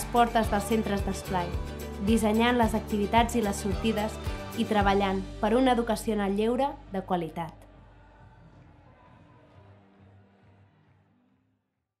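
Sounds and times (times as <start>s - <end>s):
faint background music: 0.0s - 11.3s.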